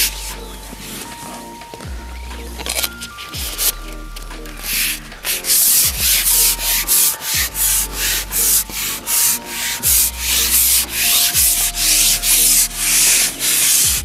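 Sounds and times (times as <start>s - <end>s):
fishing pole rubbing and scraping: 0.0s - 14.0s
low thumps: 0.0s - 14.0s.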